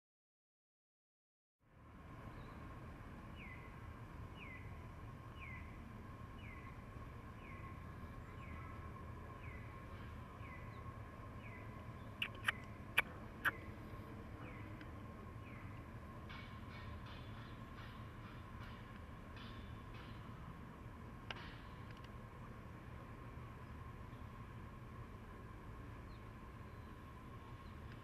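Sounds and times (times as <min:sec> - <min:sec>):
faint steady tone: 0:01.6 - 0:28.0
low background rumble: 0:01.8 - 0:28.0.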